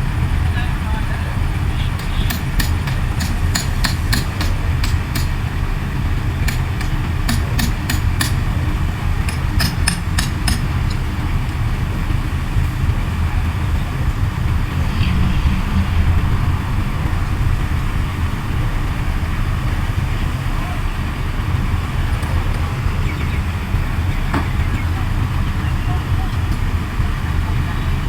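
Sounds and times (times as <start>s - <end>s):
bulldozer diesel engine rumble: 0.0s - 28.0s.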